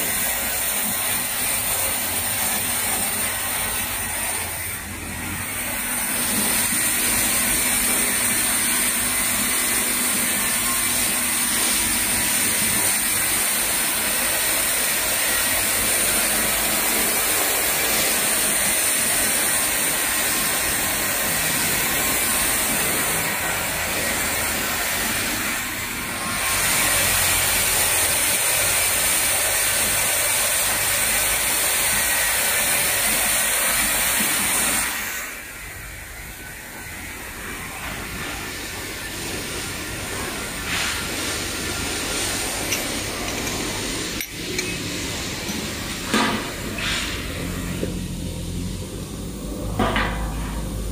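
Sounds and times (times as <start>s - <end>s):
bottle rinsing machine hissing: 0.0s - 50.9s.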